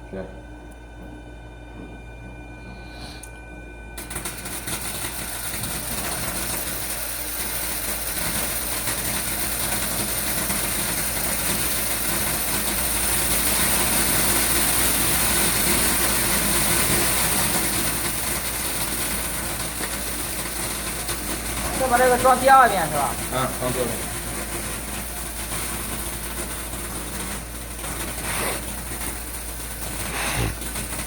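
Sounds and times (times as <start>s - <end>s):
seed-sorting machine rushing hiss: 4.6s - 31.0s.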